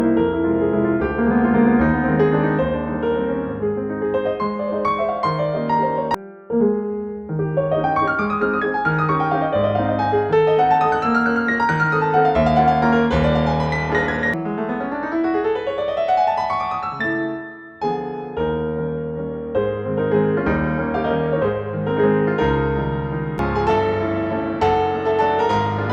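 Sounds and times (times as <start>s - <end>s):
solo piano music: 0.0s - 25.9s.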